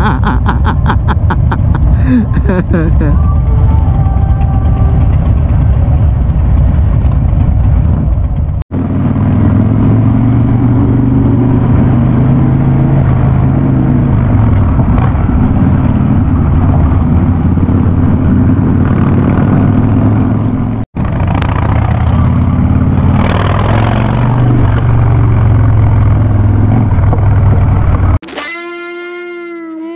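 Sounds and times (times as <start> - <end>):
motorcycle engine running loud: 1.3 - 28.2.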